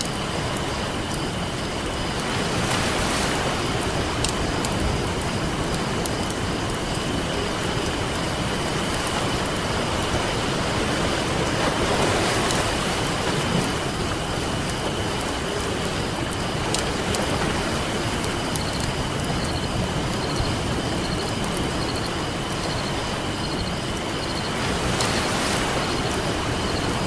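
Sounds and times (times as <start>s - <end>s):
campfire crackling and popping: 0.0s - 25.2s
ocean waves: 0.0s - 27.0s.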